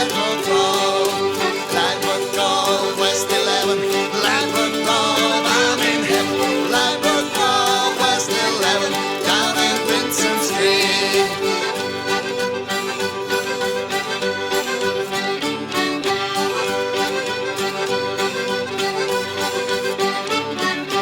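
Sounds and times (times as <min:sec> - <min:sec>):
accordion: 0:00.0 - 0:21.0
folk dance band: 0:00.0 - 0:21.0.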